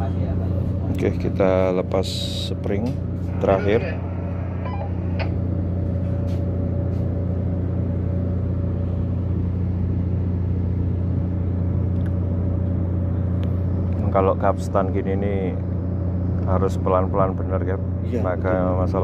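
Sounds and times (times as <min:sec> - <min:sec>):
faint steady whine: 0:00.0 - 0:19.0
ship machinery low drone: 0:00.0 - 0:19.0.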